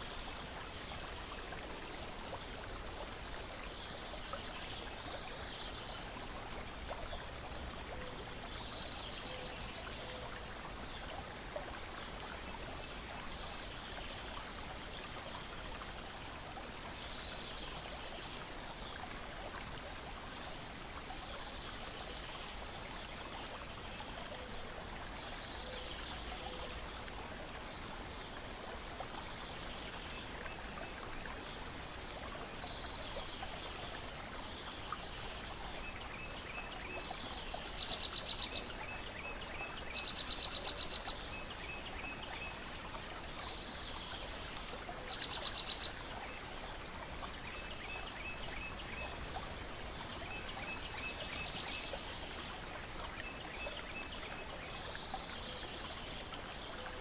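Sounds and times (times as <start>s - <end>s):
water lapping and trickling: 0.0s - 57.0s.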